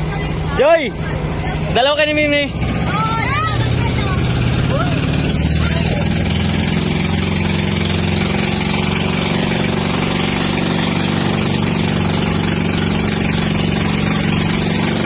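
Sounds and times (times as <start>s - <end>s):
watercraft engine running: 0.0s - 15.0s.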